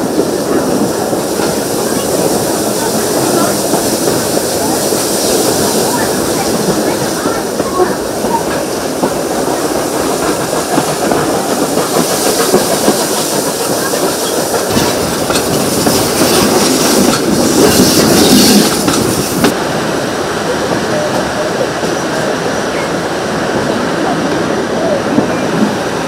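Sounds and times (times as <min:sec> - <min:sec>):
clickety-clack of rail joints: 0:00.0 - 0:19.6, 0:20.4 - 0:26.0
train wheels rumbling on rail: 0:00.0 - 0:26.0.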